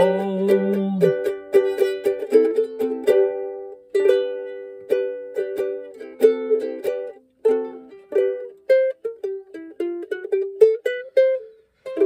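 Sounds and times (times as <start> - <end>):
ukulele strummed chords: 0.0 - 12.0.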